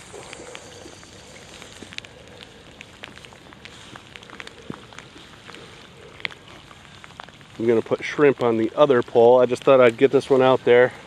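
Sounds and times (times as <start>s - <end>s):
raindrops ticking close by: 0.0s - 11.0s
steady rain: 0.0s - 11.0s.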